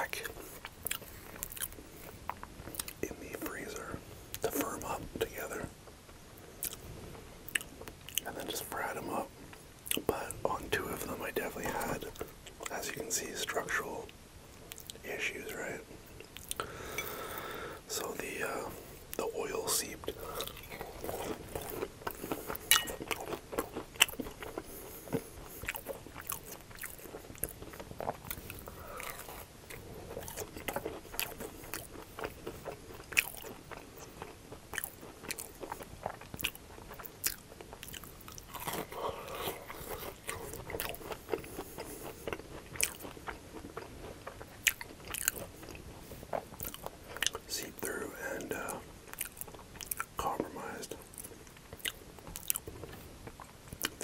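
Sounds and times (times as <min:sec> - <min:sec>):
chewing crispy potato cakes: 0:00.0 - 0:54.0.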